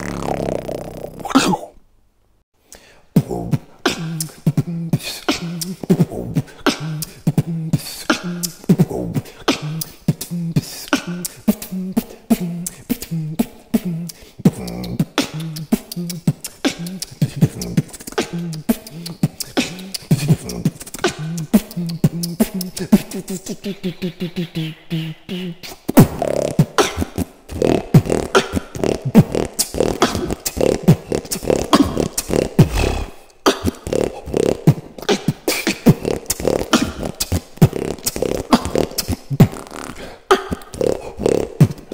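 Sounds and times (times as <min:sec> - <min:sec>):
beatboxing clicks and pops: 0:00.0 - 0:01.6, 0:03.4 - 0:41.9.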